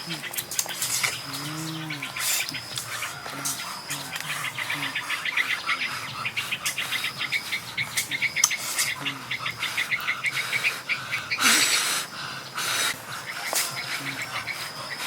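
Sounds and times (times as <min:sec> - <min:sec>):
birds chirping rapidly: 0:00.0 - 0:15.0.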